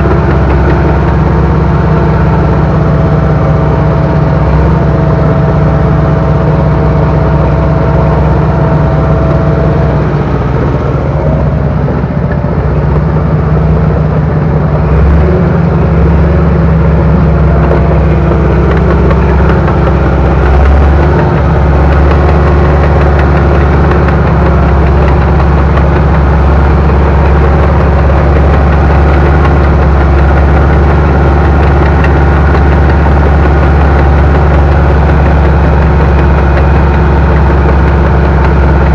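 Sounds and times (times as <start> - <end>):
bulldozer engine running: 0.0 - 38.9.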